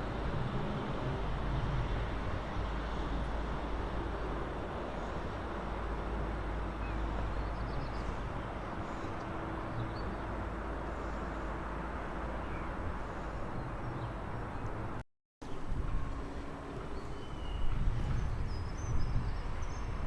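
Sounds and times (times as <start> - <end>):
train rumbling by: 0.0 - 15.0, 15.6 - 20.0.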